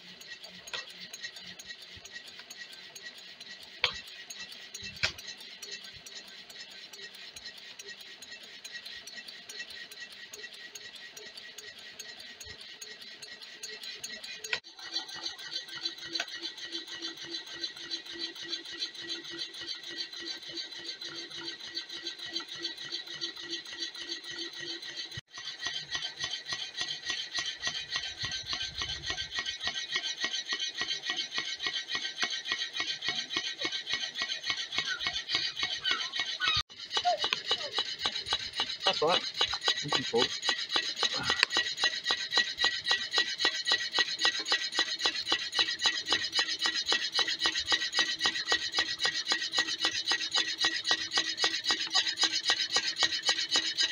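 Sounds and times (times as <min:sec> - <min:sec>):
stirling engine rhythmic rasping: 0:00.0 - 0:53.9.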